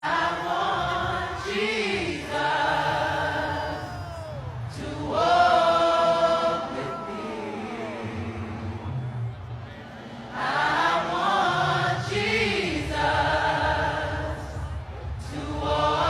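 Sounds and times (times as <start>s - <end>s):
voices singing held notes: 0.0s - 9.0s, 9.8s - 16.0s.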